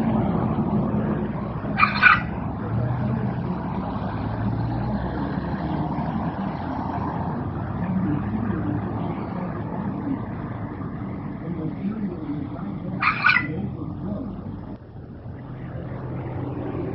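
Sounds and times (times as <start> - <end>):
low engine hum: 0.0 - 16.9
road traffic rumble: 0.0 - 16.9.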